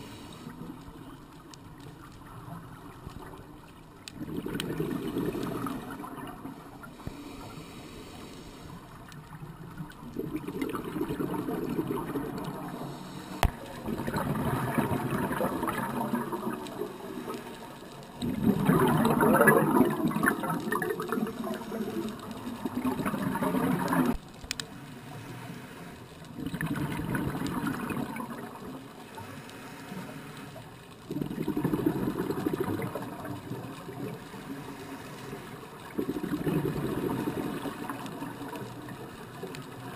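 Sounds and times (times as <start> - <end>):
underwater exhaust bubbles gurgling: 0.0 - 39.9.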